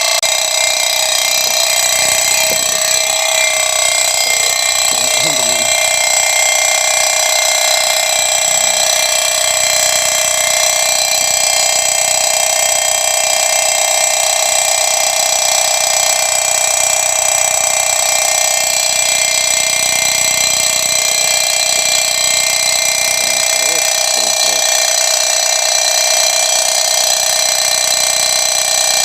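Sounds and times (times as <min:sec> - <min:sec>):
night insects shrill drone: 0:00.3 - 0:28.2.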